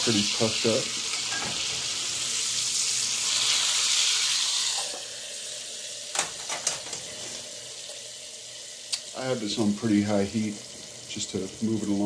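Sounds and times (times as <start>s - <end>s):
bacon sizzling in skillet: 0.0s - 12.0s.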